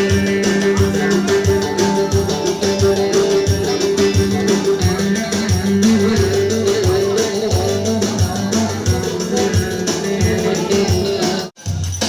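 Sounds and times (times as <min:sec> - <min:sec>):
percussion beat: 0:00.0 - 0:12.0.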